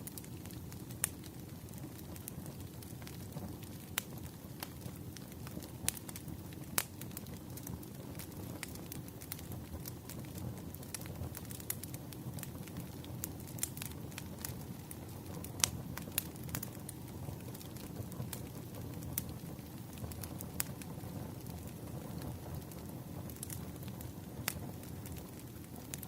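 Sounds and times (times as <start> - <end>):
fire pops and snaps: 0.0 - 26.0
low rumble of burning logs: 0.0 - 26.0.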